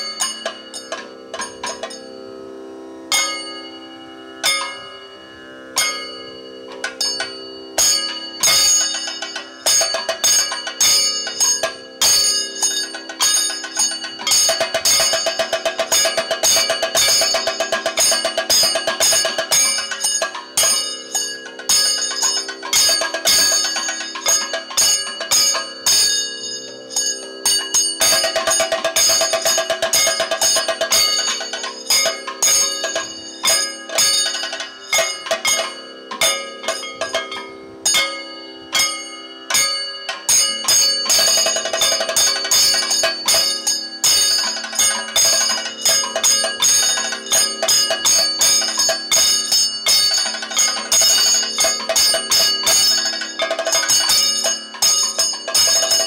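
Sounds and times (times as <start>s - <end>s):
hand cymbals clashing: 0.0s - 2.4s, 3.1s - 56.0s.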